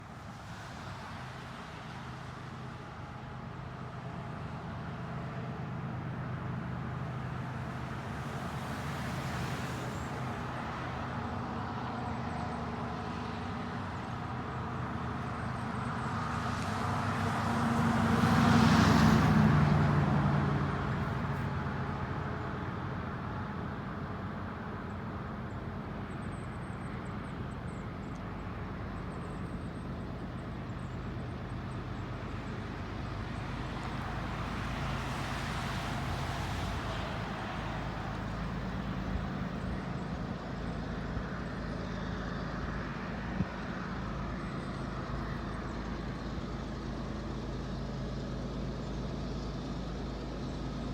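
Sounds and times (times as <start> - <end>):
diesel locomotive engines droning: 9.8 - 50.9.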